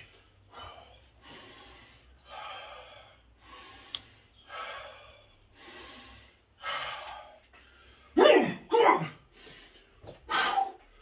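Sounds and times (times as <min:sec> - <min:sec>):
man breathing forcefully: 0:00.0 - 0:08.2, 0:09.2 - 0:11.0.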